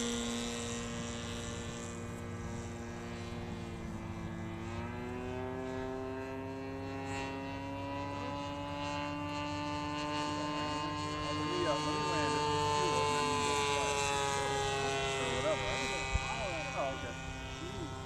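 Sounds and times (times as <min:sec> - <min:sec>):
model airplane motor droning: 0:00.0 - 0:18.0.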